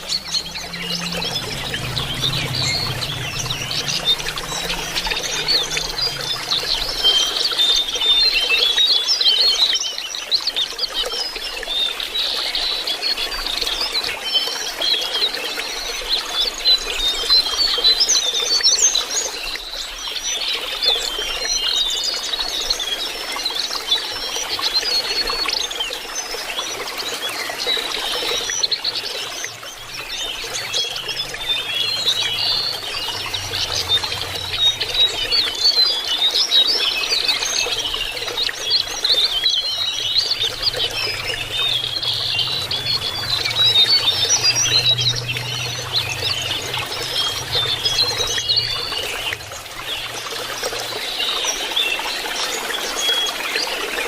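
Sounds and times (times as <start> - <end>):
birds twittering: 0.0 - 54.0
running water trickling: 0.0 - 54.0.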